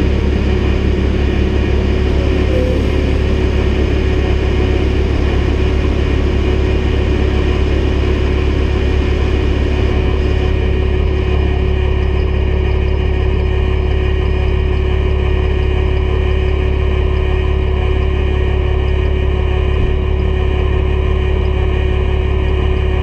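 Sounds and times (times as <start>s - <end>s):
engine whine: 0.0s - 23.0s
heavy diesel engine running: 0.0s - 23.0s.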